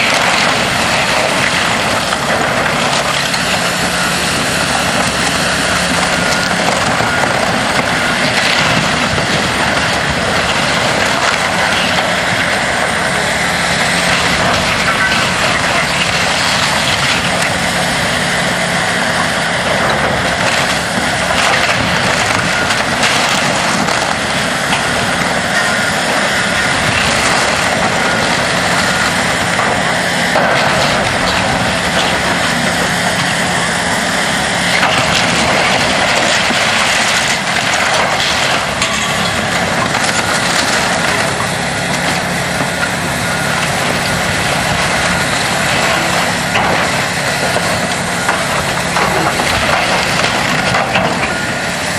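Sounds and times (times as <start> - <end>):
heavy machine engine running: 0.0 - 51.9
wood and debris crunching: 0.0 - 51.9.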